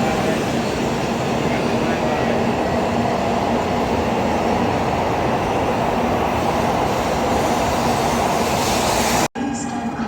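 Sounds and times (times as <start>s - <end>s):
bullet train rushing past: 0.0s - 10.0s.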